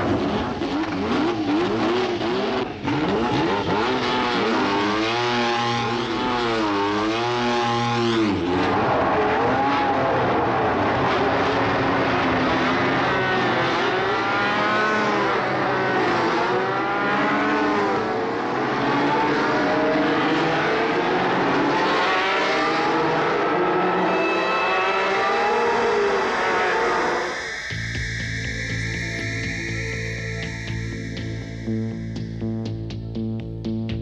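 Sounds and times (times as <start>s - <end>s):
racing engines revving: 0.0s - 27.5s.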